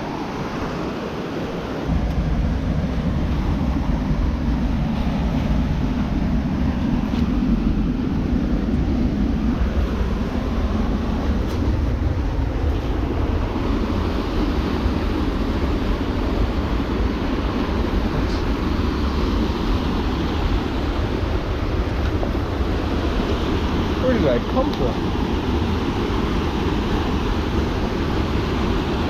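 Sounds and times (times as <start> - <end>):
creek water rushing: 0.0 - 29.0.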